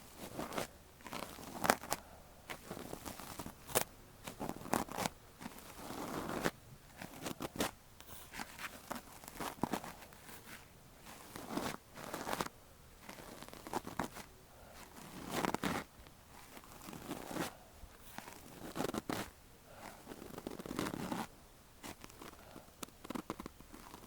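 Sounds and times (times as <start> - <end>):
ear tool scratching inside ear: 0.2 - 24.0.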